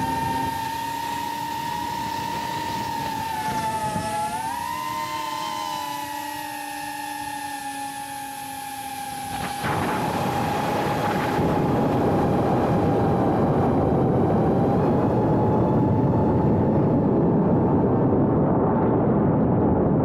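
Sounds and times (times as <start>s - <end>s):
drone motors whining: 0.0s - 18.4s
rush of air noise: 0.0s - 20.0s.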